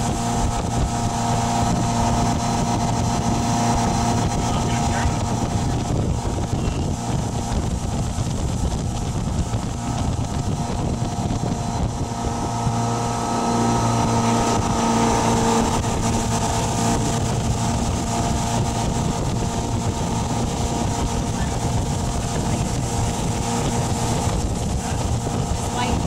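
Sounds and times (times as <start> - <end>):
boat engine running: 0.0 - 26.0
wind on microphone: 0.0 - 26.0.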